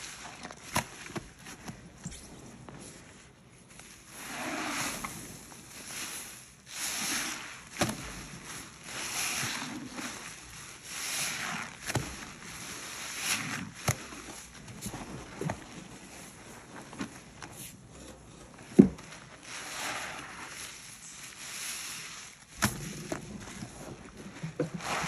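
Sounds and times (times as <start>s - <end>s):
sponge squelching in foamy paste: 0.0s - 25.0s.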